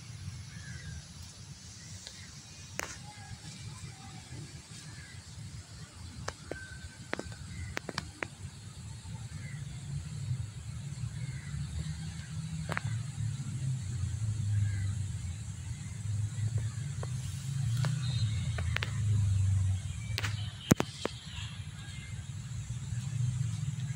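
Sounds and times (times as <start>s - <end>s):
low engine rumble: 0.0s - 23.9s.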